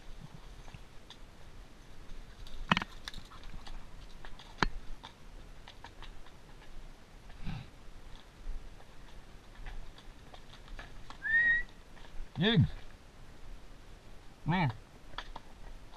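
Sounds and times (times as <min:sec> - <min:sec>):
hooves on stones: 0:00.0 - 0:15.9.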